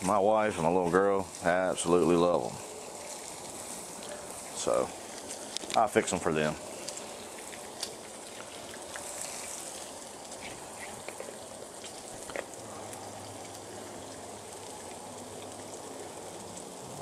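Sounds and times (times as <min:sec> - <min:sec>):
food sizzling on a griddle: 0:00.0 - 0:17.0.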